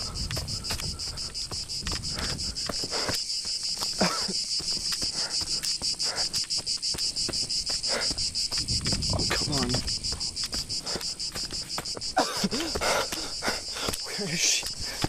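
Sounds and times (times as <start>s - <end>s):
cicadas singing: 0.0s - 15.0s.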